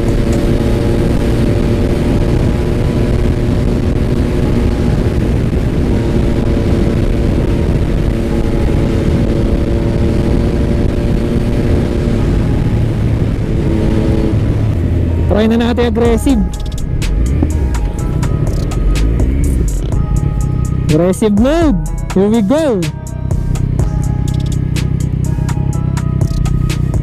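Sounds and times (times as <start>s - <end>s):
motorcycle engine cruising: 0.0s - 27.0s
wind and road noise: 0.0s - 27.0s.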